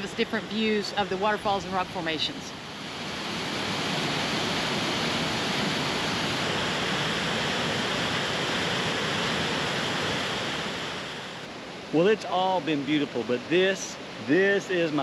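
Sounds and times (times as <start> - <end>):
water rushing through canyon: 2.6 - 15.0.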